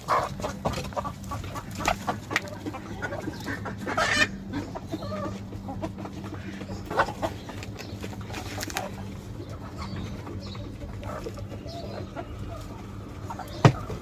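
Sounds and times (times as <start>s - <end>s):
chickens clucking and cooing: 0.0s - 14.0s.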